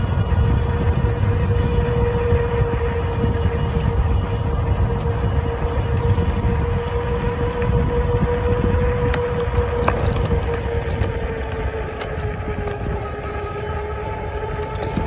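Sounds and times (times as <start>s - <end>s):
electric motor whine: 0.0s - 15.0s
wind buffeting microphone: 0.0s - 15.0s.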